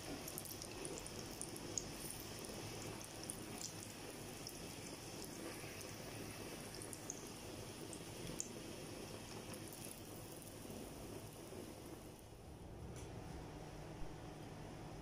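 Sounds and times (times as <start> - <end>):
hot oil sizzling: 0.0 - 12.4.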